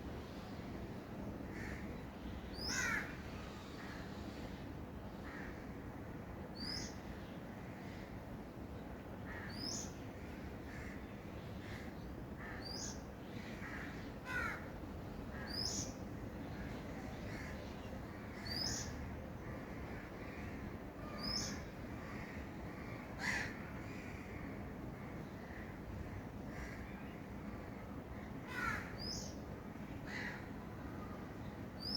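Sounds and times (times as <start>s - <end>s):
steady low background noise: 0.0s - 31.9s.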